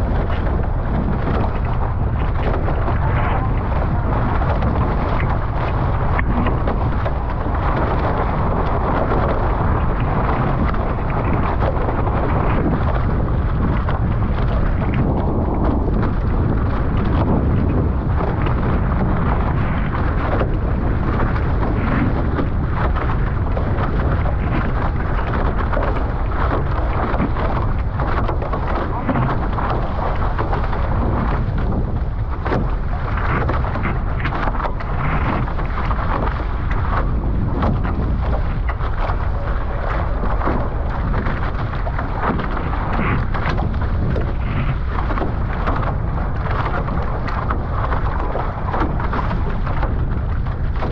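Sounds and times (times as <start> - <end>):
water rushing past hulls: 0.0 - 50.9
wind buffeting microphone: 0.0 - 50.9.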